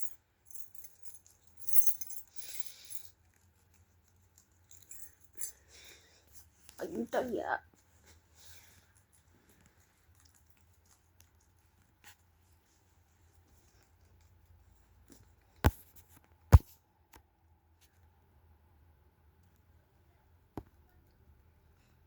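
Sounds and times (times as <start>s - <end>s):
guinea pigs rustling and nibbling: 0.0s - 22.0s.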